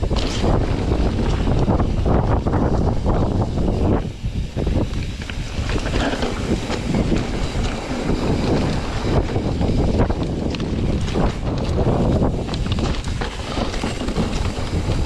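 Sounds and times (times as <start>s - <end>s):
bike clicks and rattles: 0.0s - 15.0s
tyres rumbling on dirt trail: 0.0s - 15.0s
wind rushing over microphone: 0.0s - 15.0s.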